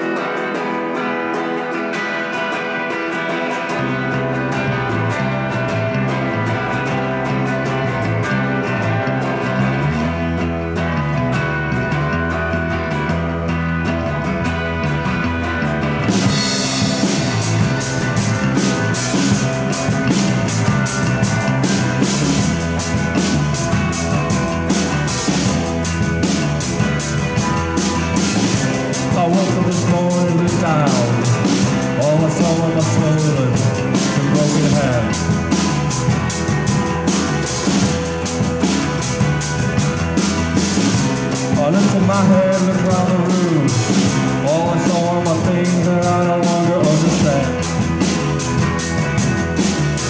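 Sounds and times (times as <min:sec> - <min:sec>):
band playing drums bass guitar: 0:00.0 - 0:50.0.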